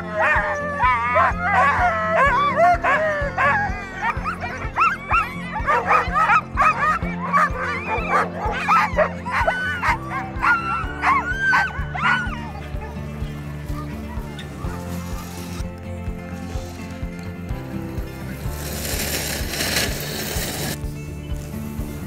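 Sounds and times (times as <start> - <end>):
sled dogs barking and yelping: 0.0 - 20.8
background music: 0.0 - 22.0.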